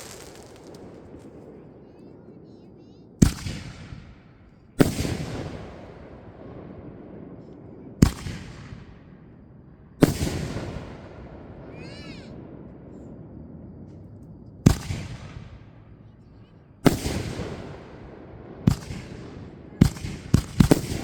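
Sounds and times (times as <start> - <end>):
fireworks bursting with echo: 0.0 - 9.1, 9.9 - 13.8, 14.6 - 21.0.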